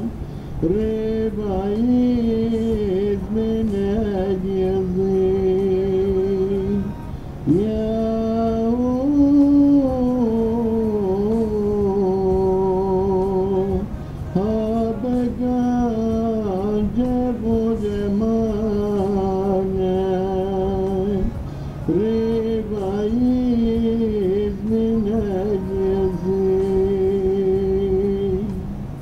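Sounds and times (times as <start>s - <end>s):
person singing a hymn: 0.0s - 29.0s.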